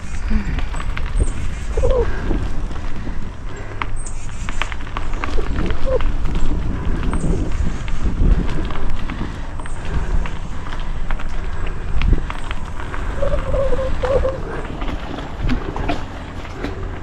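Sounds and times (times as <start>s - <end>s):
bike rattling and clicking: 0.0s - 17.0s
bike tyres crunching on dirt: 0.0s - 17.0s
wind buffeting microphone: 0.0s - 17.0s.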